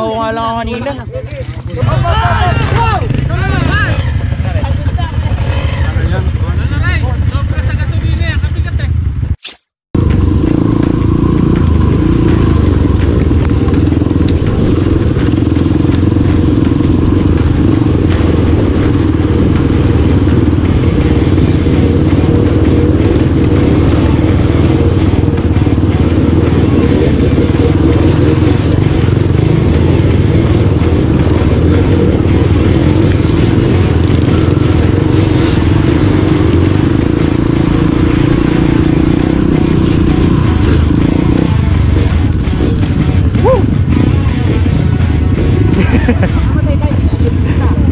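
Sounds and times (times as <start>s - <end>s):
dirt bike engine running: 0.0s - 9.4s, 10.0s - 47.9s.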